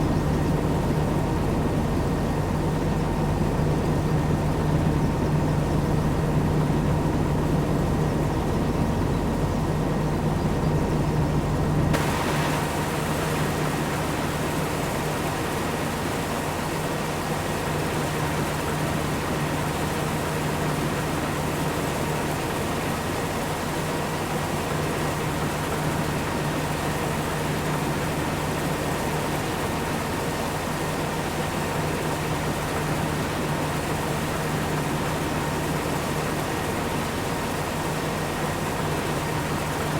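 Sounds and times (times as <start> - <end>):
heavy machinery engine running: 0.1 - 39.9.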